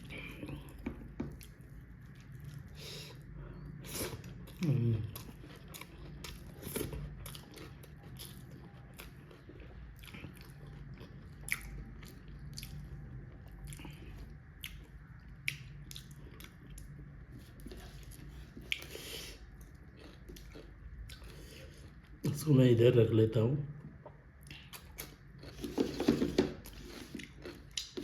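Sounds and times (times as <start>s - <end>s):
chewing food: 0.0s - 22.3s, 23.8s - 28.0s.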